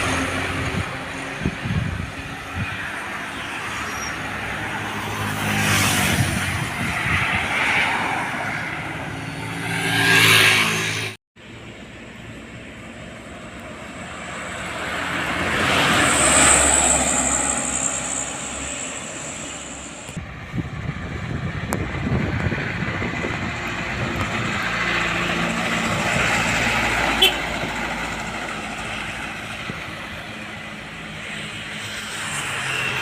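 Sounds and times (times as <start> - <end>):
road rumble: 0.0 - 33.0
truck passing by: 0.0 - 33.0.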